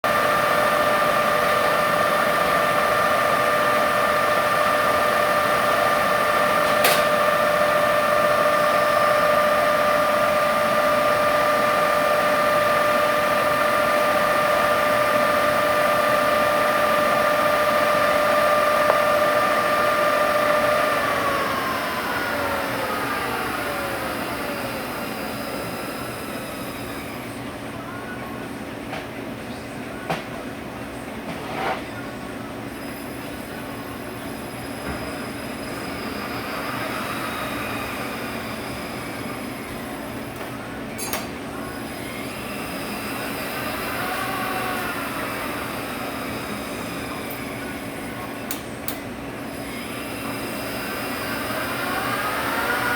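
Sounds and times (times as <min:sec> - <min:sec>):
transmission gear whine: 0:00.0 - 0:28.9, 0:32.0 - 0:52.9.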